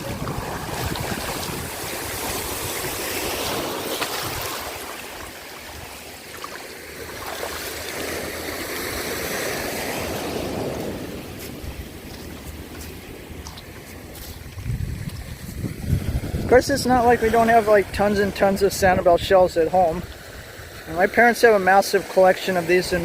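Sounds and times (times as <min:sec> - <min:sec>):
small waves washing ashore: 0:00.0 - 0:23.0.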